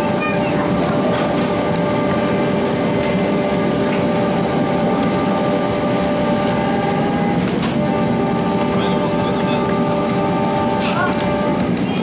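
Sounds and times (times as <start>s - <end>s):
locomotive drone: 0.0s - 12.0s
train wheels rumbling on rails: 0.0s - 12.0s.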